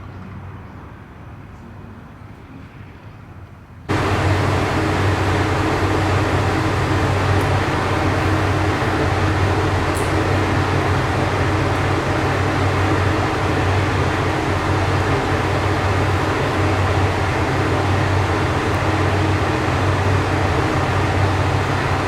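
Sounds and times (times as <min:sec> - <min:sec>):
diesel railcar engine hum: 0:00.0 - 0:22.0
rail noise: 0:03.9 - 0:22.0.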